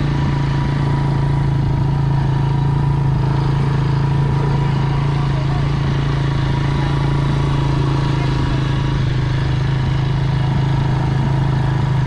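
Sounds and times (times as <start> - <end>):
motor vehicle engine humming: 0.0 - 12.0.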